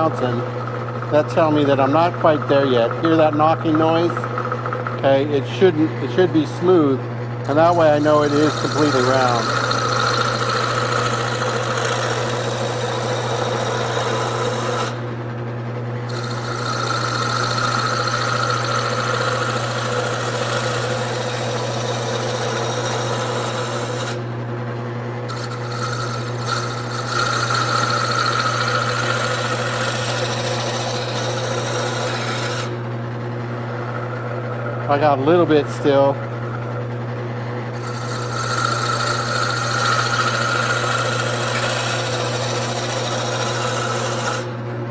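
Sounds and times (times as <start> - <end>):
turning tool scraping wood: 0.0 - 15.0, 16.1 - 24.3, 25.2 - 44.6
wood lathe motor hum: 0.0 - 44.9.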